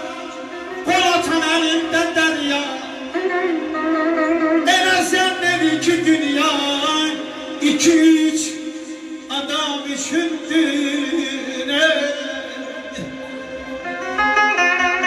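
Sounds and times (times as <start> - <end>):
instrumental music: 0.0 - 15.0
man singing melismatic melody: 0.0 - 15.0.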